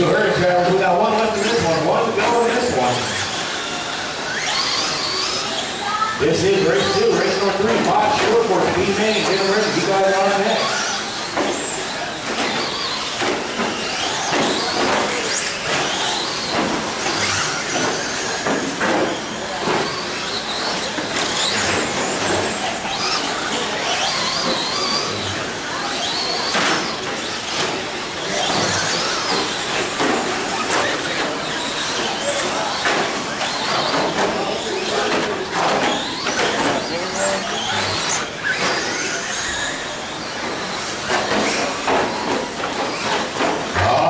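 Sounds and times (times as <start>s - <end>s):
rc truck motors whining: 0.0s - 44.0s.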